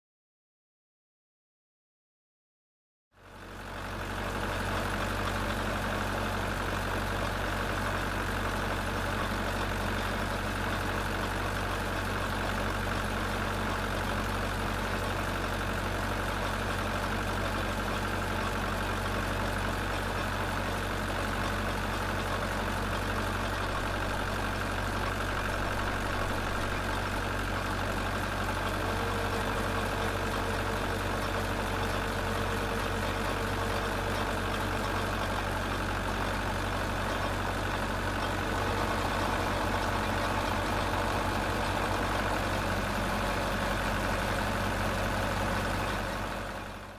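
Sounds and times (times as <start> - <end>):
tow truck engine idling: 3.2 - 46.9.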